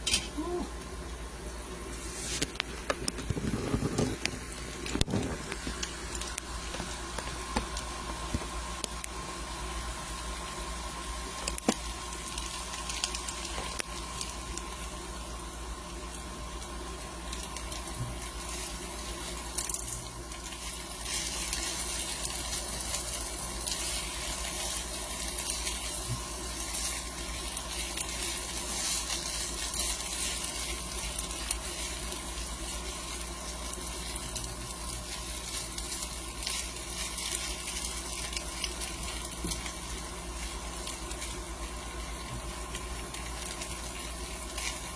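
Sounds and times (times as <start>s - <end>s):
potatoes frying in oil: 0.0s - 44.9s.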